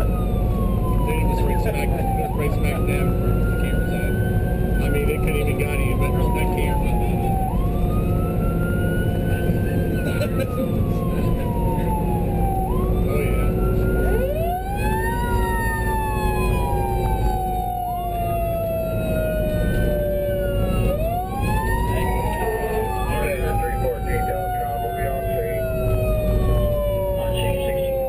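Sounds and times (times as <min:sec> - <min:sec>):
second siren: 0:00.0 - 0:28.0
siren wailing: 0:00.0 - 0:28.0
vehicle engine and road noise: 0:00.0 - 0:28.0.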